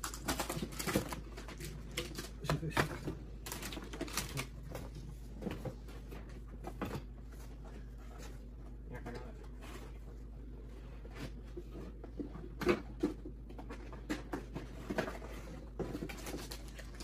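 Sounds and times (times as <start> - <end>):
cardboard boxes rustling: 0.0 - 17.0
computer parts and packaging handled: 0.0 - 17.0
steady low hum: 0.0 - 17.0.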